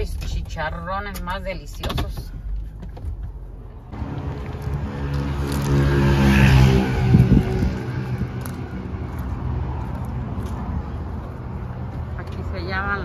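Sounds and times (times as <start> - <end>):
traffic hum: 0.0 - 13.0
vehicle engine running: 2.4 - 13.0.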